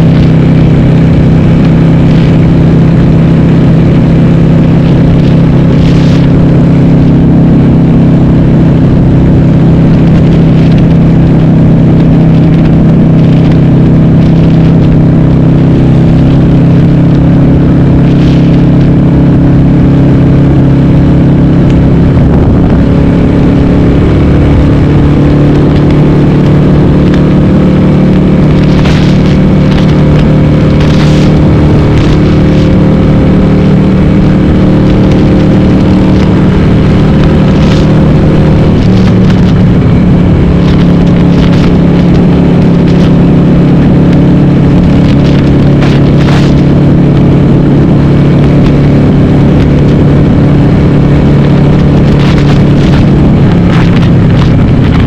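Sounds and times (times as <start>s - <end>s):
loud v-twin motorcycle engine: 0.0s - 55.0s.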